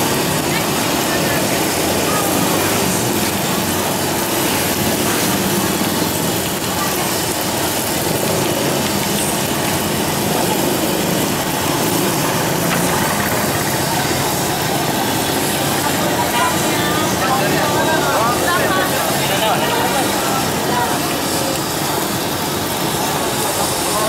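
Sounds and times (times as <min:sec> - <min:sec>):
hot oil sizzling in a wok: 0:00.0 - 0:24.0
steady engine-like hum: 0:00.0 - 0:24.0.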